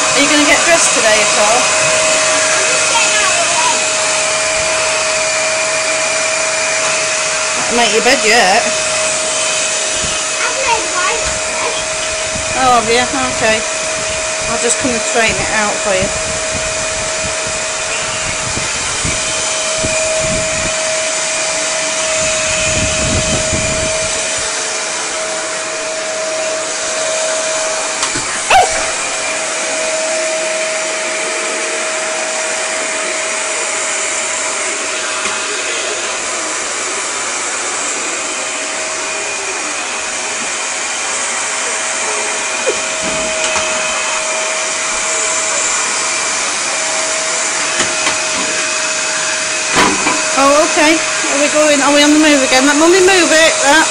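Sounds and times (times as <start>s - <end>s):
vacuum cleaner whining: 0.0s - 53.9s.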